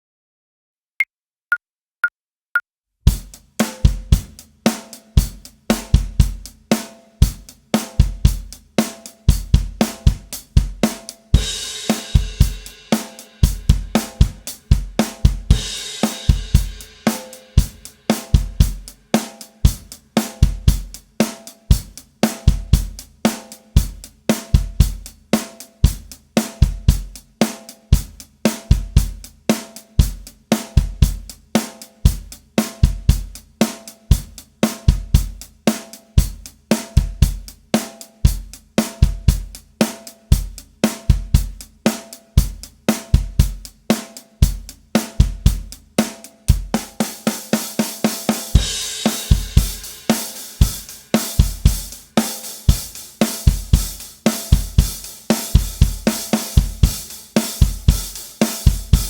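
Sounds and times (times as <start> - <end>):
drum kit rock beat: 3.1 - 59.0.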